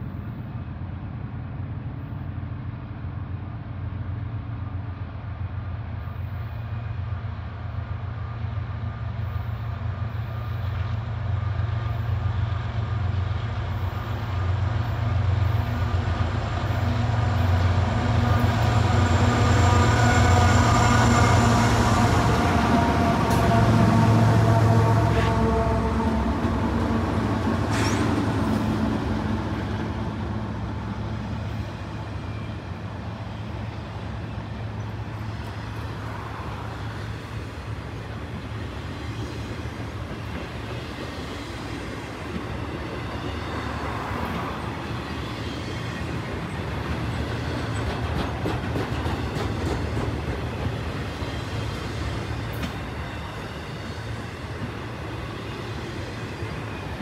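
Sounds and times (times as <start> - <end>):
diesel locomotive engine: 0.0 - 57.0
train wheels rumbling on rails: 0.0 - 57.0.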